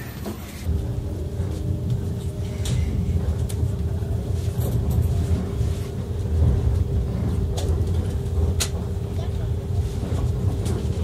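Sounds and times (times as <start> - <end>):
constant hum: 0.0 - 11.0
train low rumble: 0.0 - 11.0.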